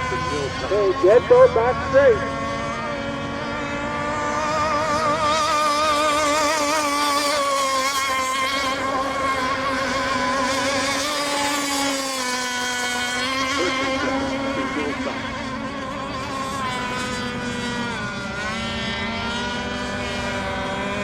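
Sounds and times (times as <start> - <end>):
rc boat engines buzzing: 0.0 - 21.0.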